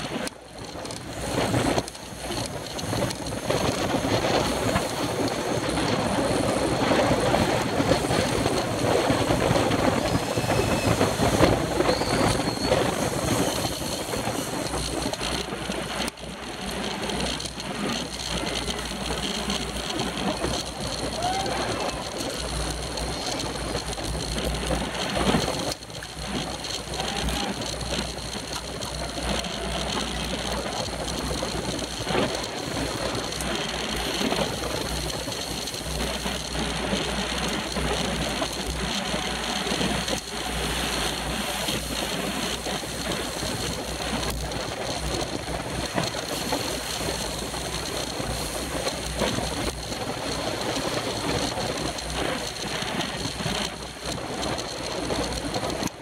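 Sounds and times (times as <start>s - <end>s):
tyres on asphalt: 0.0s - 56.0s
wind on microphone: 0.0s - 56.0s.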